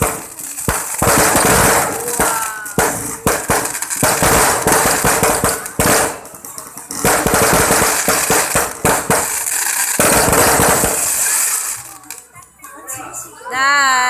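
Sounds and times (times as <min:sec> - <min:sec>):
firecrackers crackling: 0:00.0 - 0:12.3.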